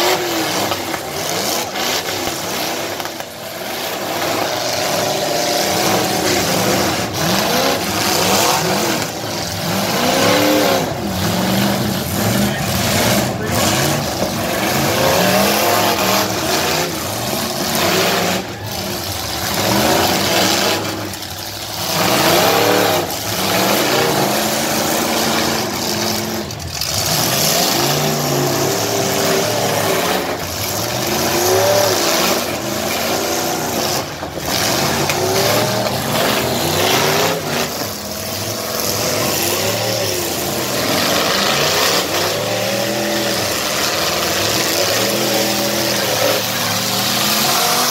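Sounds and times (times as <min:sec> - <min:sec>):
car and truck engines revving: 0:00.0 - 0:47.9.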